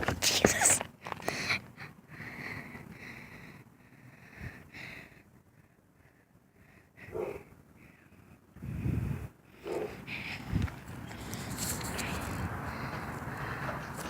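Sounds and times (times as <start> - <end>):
breathing and sniffing: 1.2 - 14.0.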